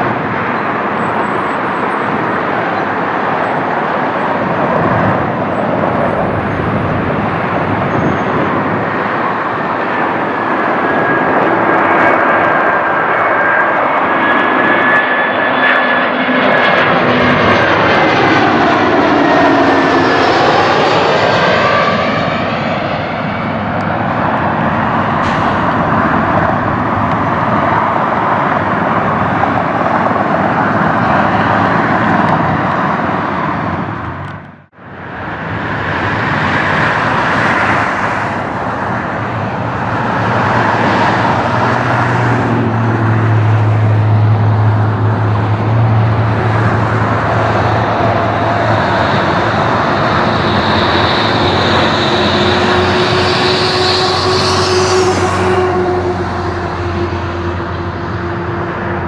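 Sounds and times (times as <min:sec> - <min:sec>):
jet engines roaring past: 0:00.0 - 0:59.0.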